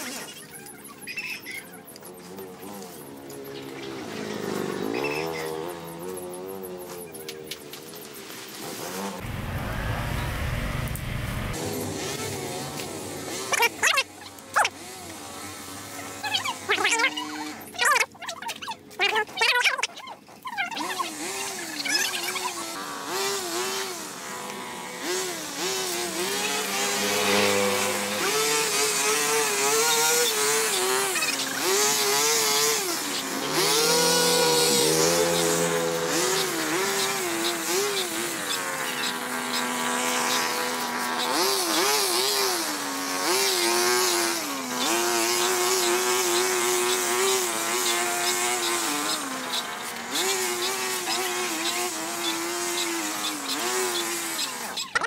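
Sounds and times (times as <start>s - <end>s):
small petrol engine revving: 1.2s - 17.8s, 20.7s - 55.0s.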